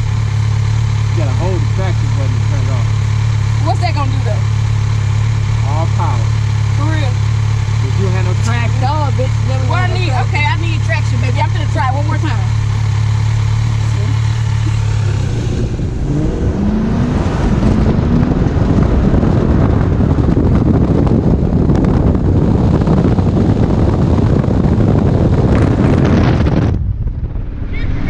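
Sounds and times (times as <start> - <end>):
car engine accelerating hard: 0.0 - 28.0
wind and road noise: 0.0 - 28.0.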